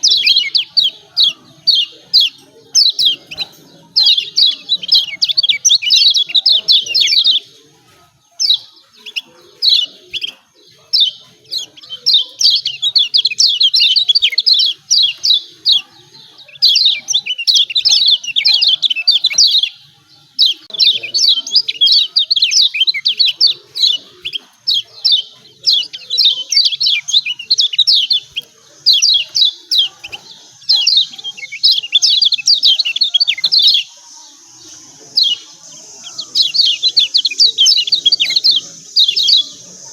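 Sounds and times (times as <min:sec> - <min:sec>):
bird chirping calls: 0:00.0 - 0:39.9.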